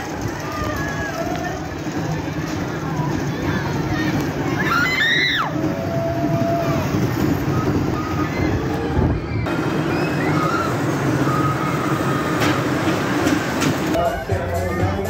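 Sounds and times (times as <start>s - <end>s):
roller coaster wheels rumbling: 0.0s - 15.0s.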